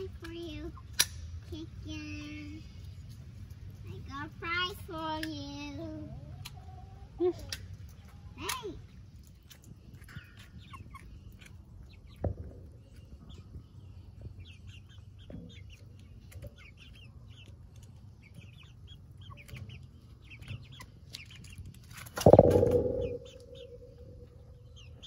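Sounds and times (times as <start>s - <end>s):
hens clucking and peeping: 0.0s - 25.0s.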